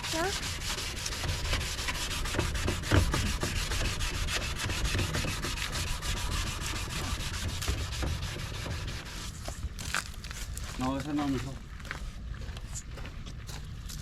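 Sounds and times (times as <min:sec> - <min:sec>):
sandpaper rasping back and forth: 0:00.0 - 0:11.2.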